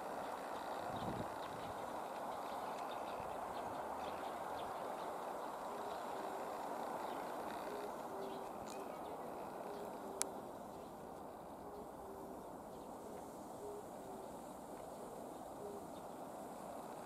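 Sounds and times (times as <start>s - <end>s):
dove cooing: 0.0s - 17.0s
faint bird chirps: 0.0s - 17.0s
steady background hiss: 0.0s - 17.0s.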